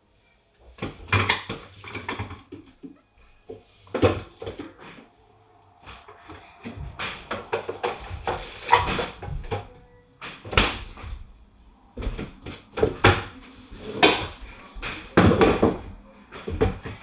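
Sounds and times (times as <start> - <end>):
things being handled: 0.6 - 17.0.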